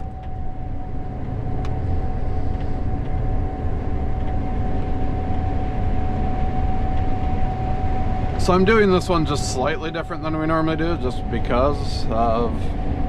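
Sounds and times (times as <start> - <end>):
combine harvester rumble: 0.0 - 13.0
high machine whine: 0.0 - 13.0.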